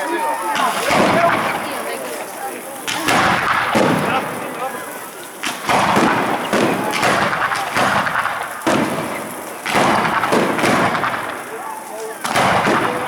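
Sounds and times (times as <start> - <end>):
faint crowd voices: 0.0 - 13.0
fireworks bangs: 0.0 - 13.0.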